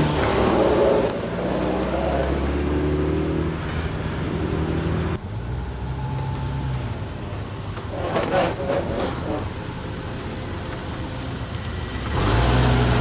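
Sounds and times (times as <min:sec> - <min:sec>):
car engine driving off: 0:00.0 - 0:07.0, 0:09.2 - 0:13.0.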